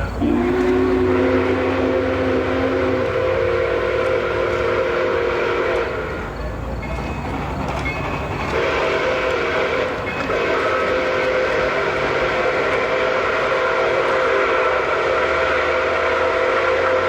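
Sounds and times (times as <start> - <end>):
steam locomotive whistle: 0.0 - 6.5, 8.4 - 17.0
rumble of running train: 0.0 - 17.0.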